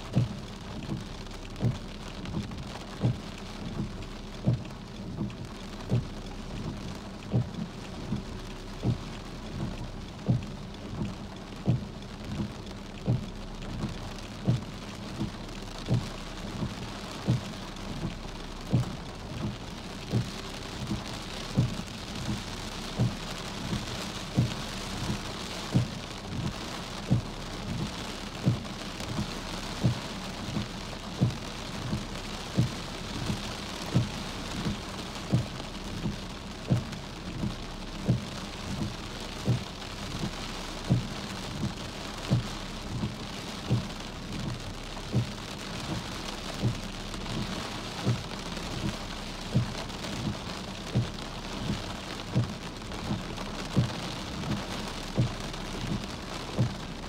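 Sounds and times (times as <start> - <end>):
rain hissing on a car: 0.0 - 57.0
short low thuds: 0.1 - 57.0.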